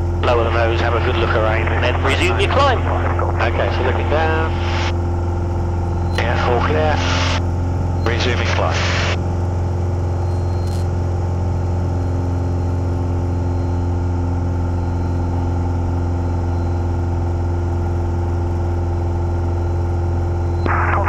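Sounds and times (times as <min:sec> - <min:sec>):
light aircraft engine droning: 0:00.0 - 0:21.0.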